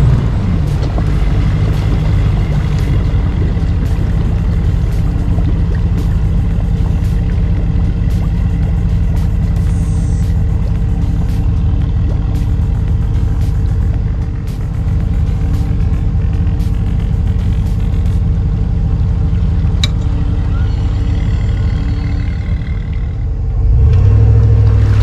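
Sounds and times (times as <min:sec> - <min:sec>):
deep rumble with rushing hiss: 0:00.0 - 0:25.0
vehicle engine idling: 0:00.0 - 0:25.0.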